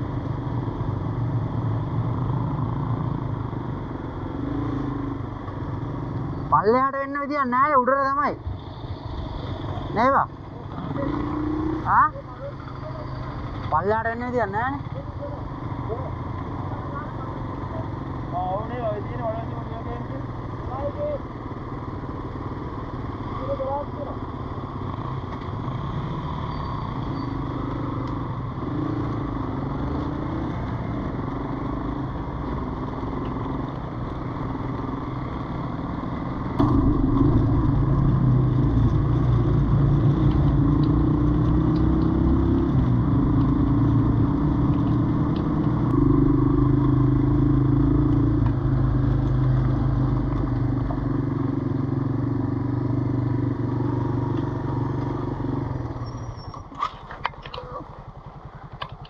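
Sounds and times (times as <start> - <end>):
motorcycle engine: 8.5 - 59.0.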